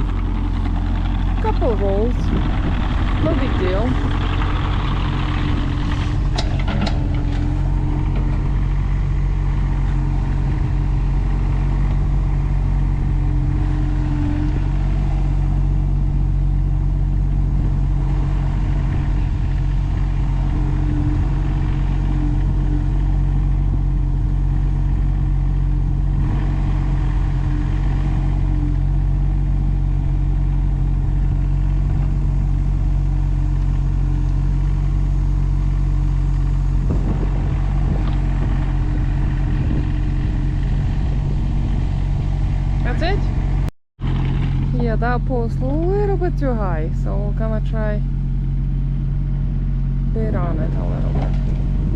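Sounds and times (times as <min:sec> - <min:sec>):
engine humming: 0:00.0 - 0:51.9.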